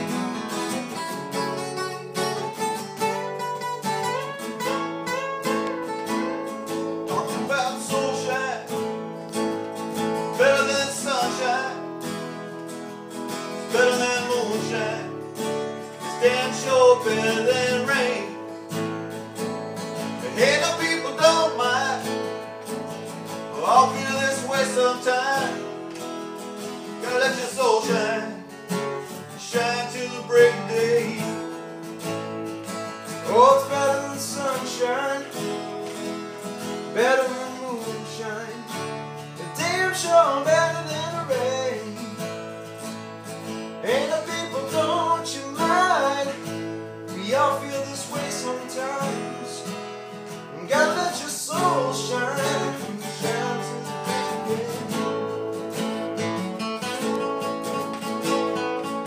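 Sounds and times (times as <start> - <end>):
acoustic guitar chords strummed: 0.0 - 59.0
guitar lead with bent notes: 0.0 - 59.0.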